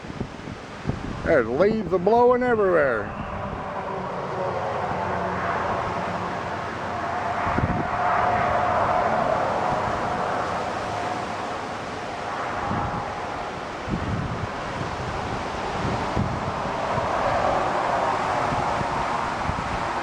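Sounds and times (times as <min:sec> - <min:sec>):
wind gust thump on microphone: 0:00.0 - 0:02.4, 0:05.3 - 0:11.9, 0:12.6 - 0:20.0
strong wind rushing: 0:00.0 - 0:20.0.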